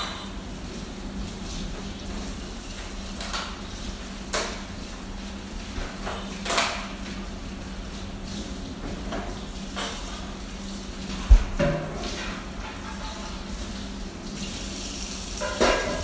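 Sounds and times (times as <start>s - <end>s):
tap water running: 0.3s - 16.0s.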